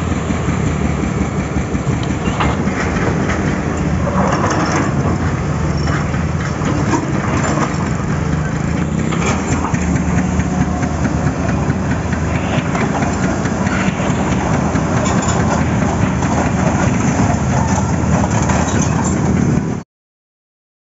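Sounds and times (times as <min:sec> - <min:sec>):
dense rapid clatter: 0:00.0 - 0:19.8
excavator diesel engine running: 0:00.0 - 0:19.8.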